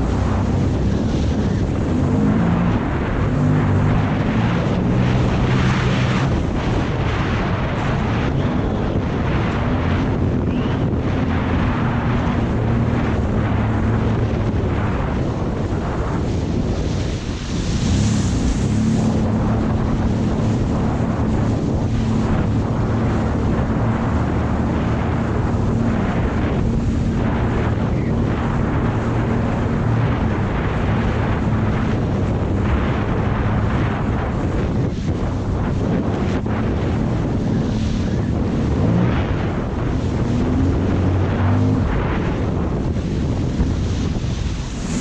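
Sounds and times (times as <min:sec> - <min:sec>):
jet ski engine running: 0:00.0 - 0:45.0
wind buffeting microphone: 0:00.0 - 0:45.0.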